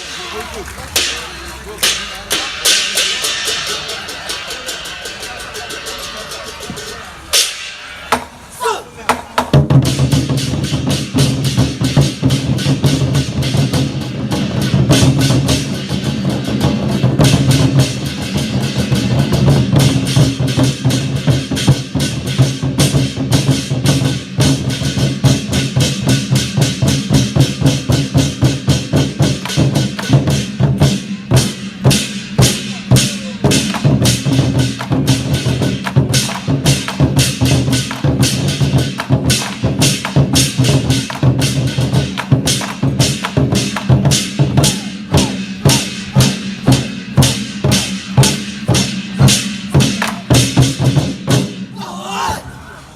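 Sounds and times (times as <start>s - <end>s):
war drums beating: 0.0s - 52.4s.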